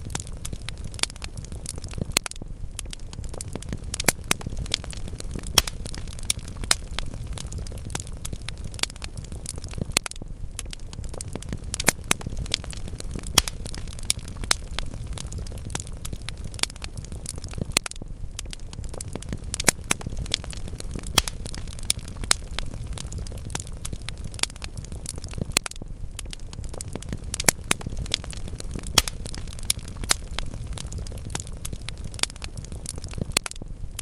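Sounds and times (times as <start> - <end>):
low rumble of flames: 0.0 - 34.0
wood fire crackles and pops: 0.0 - 34.0.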